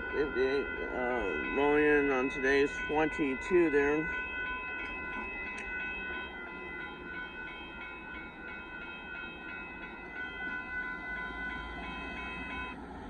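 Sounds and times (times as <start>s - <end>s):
high-pitched ringing tone: 0.0s - 12.8s
train rumbling past: 0.0s - 13.0s.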